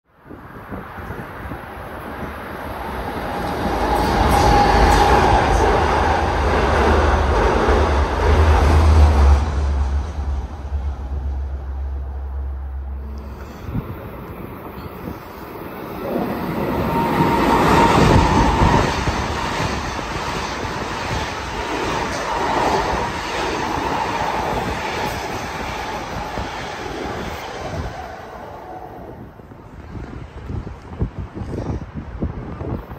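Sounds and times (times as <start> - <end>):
train passing: 0.2 - 31.4.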